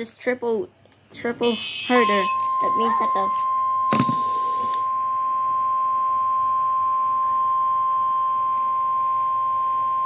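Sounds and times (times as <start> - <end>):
steady pure alarm tone: 1.4 - 10.0.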